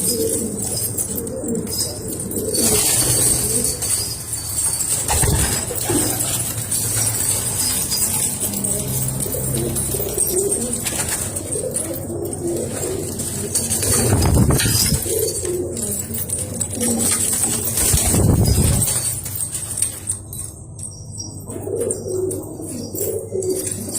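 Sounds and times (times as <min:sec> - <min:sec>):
pigeons cooing: 0:00.0 - 0:23.9.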